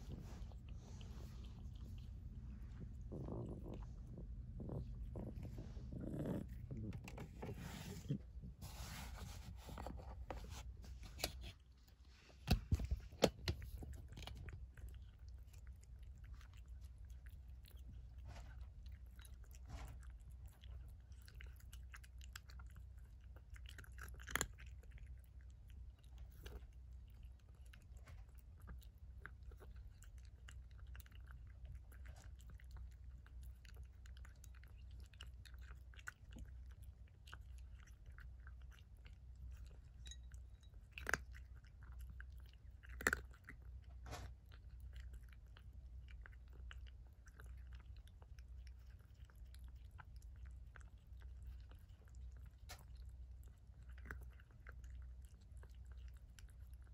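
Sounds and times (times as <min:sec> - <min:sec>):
cat chewing wet food: 0:00.0 - 0:56.9.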